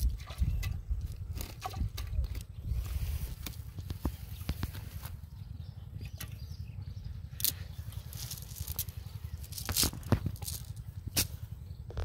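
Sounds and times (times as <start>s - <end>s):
steady low rumble: 0.0s - 12.0s
net and grass rustling: 0.1s - 5.3s, 7.3s - 12.0s.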